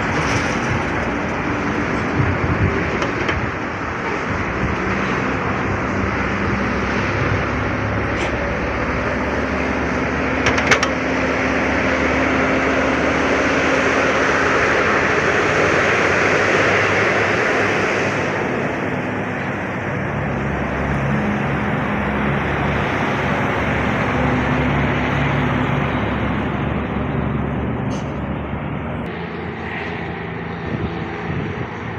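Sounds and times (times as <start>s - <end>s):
truck engine droning: 0.0s - 31.9s.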